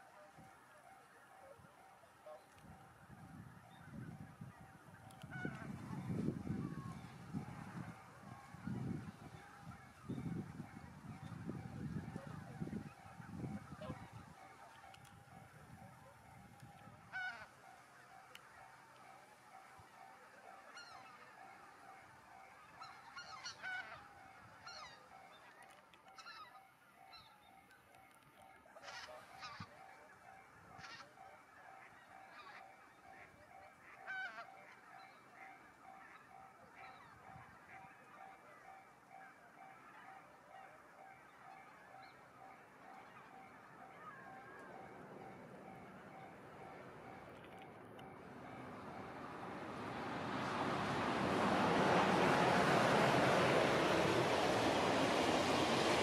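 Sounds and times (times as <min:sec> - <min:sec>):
distant geese honking: 0:00.0 - 0:56.0.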